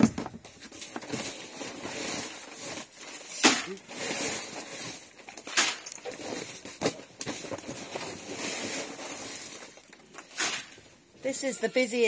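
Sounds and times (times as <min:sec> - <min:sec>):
paper sacks crinkling: 0:00.0 - 0:10.8.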